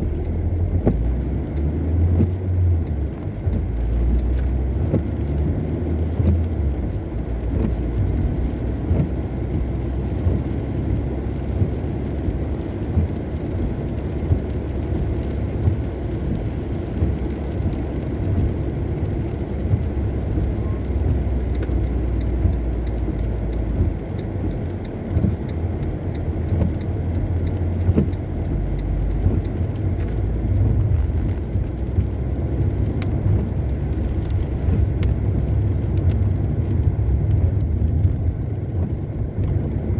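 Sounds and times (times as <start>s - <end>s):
regular light ticking: 0.0s - 7.8s, 14.2s - 39.9s
car driving on wet road: 0.0s - 39.9s.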